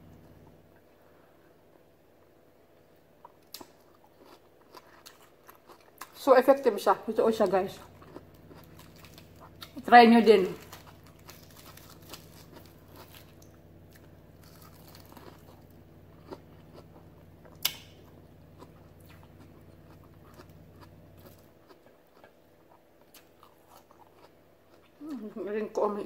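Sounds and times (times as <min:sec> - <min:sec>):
steady low hum: 0:00.0 - 0:26.0
chewing crunchy lettuce: 0:03.2 - 0:06.3, 0:07.4 - 0:25.5.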